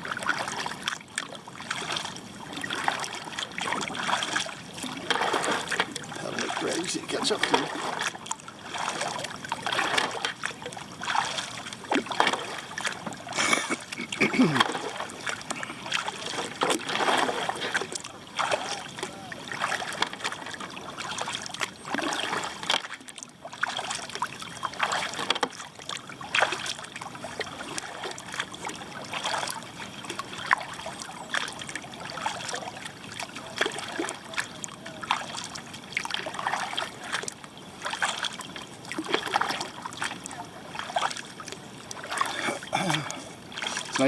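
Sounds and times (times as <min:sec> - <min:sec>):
paddle splashing in water: 0:00.0 - 0:44.0.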